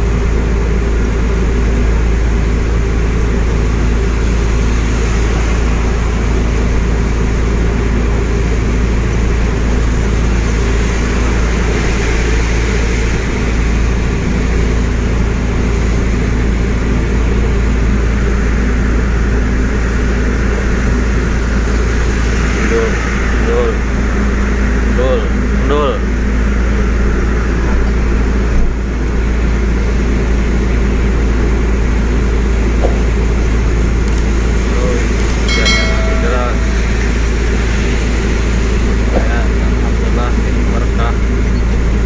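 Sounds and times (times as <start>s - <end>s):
tyres hissing on wet road: 0.8s - 35.2s.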